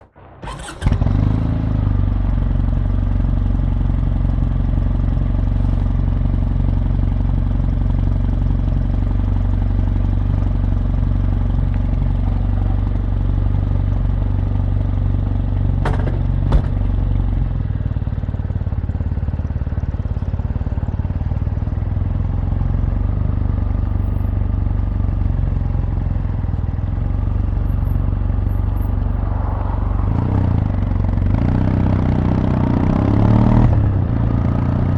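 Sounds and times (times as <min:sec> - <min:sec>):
motorcycle engine idling: 0:01.6 - 0:32.5.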